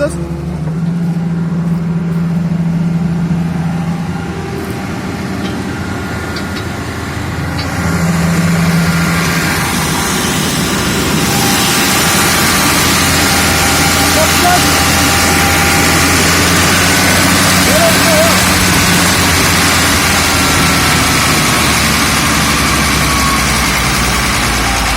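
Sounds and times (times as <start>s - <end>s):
excavator diesel engine running: 0.0s - 24.9s
low hum: 0.0s - 24.9s.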